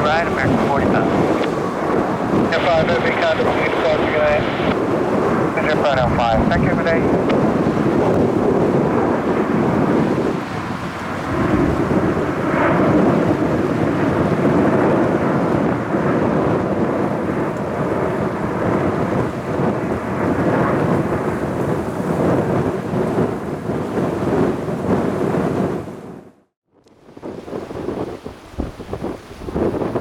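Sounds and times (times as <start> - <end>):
jet engines rumbling: 0.0 - 26.1.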